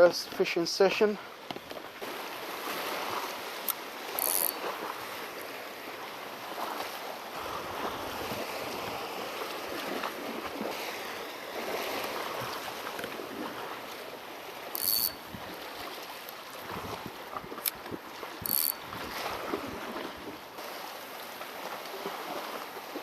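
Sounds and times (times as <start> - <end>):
sea water washing against rocks: 1.3 - 23.0.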